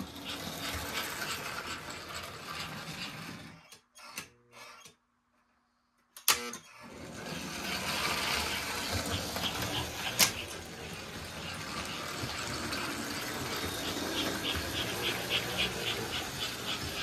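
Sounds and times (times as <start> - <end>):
toy train motors running: 0.0 - 4.9, 6.8 - 17.0.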